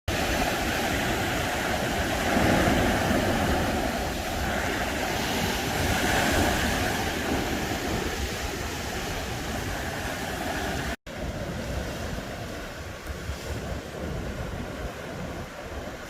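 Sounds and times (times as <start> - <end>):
sea waves breaking: 0.1 - 16.0
wind rumbling on microphone: 0.1 - 16.0.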